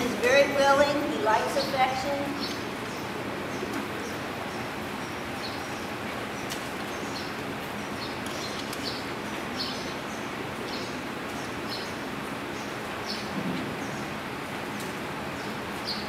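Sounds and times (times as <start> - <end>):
small birds chirping: 0.0 - 16.0
steady background hiss: 0.0 - 16.0.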